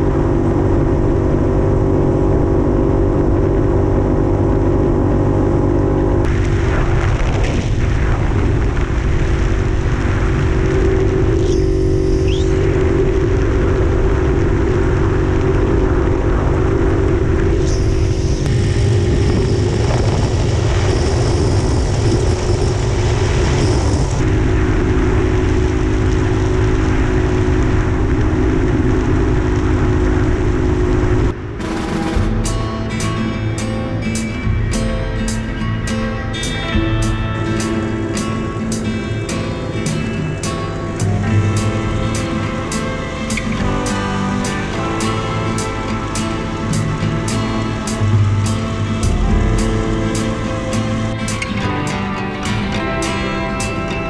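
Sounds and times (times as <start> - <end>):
two-stroke motorcycle engine cruising: 0.0 - 7.3, 9.0 - 54.0
wind rush on microphone: 0.0 - 54.0.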